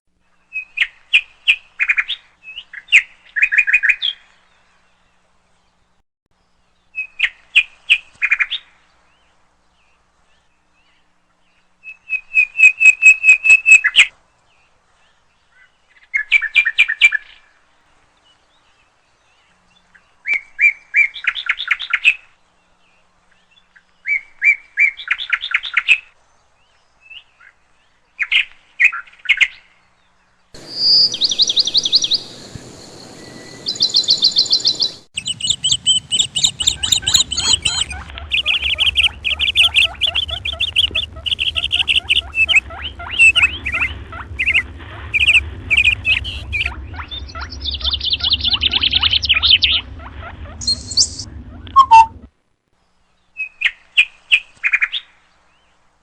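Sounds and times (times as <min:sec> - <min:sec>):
songbird chirping and trilling: 0:06.4 - 0:52.2.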